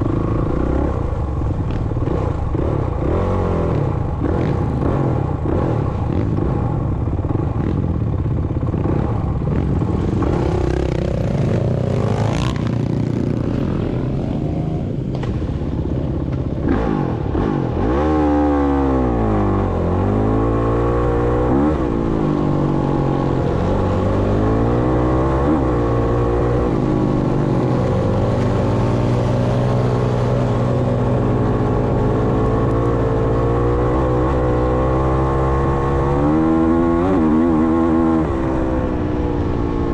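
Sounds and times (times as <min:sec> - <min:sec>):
dirt bike engine running: 0:00.0 - 0:38.1.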